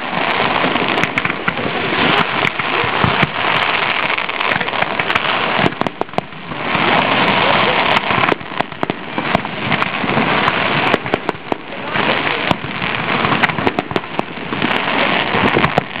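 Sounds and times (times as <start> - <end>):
fireworks bursting with sharp bangs: 0.0 - 16.0.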